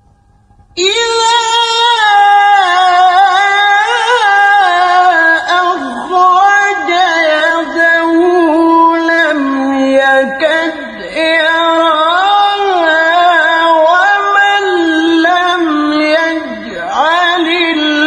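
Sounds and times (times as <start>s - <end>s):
man chanting: 0.8s - 18.0s.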